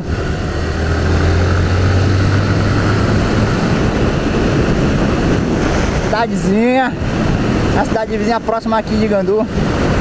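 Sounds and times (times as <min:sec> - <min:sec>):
wind rushing: 0:00.0 - 0:10.0.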